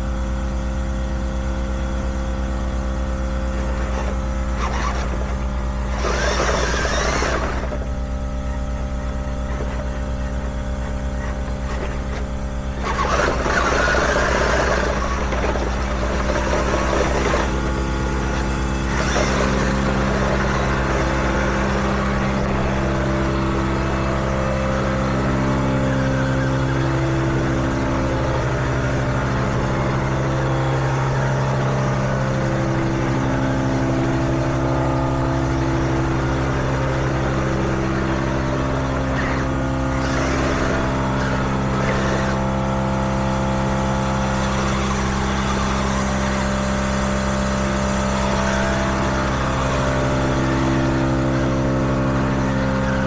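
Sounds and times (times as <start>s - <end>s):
grinding or rattling noise: 2.2s - 53.0s
toy vehicle motor drone: 2.2s - 53.0s.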